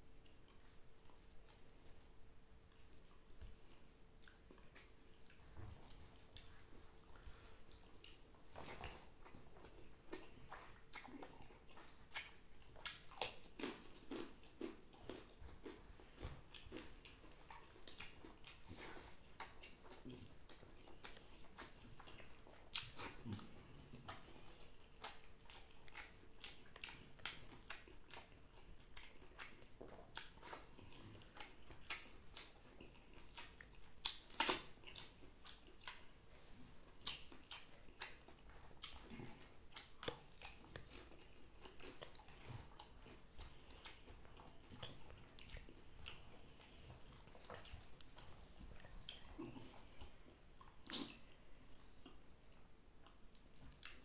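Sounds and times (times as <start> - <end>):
wet chewing and lip-smacking: 0.1 - 54.0.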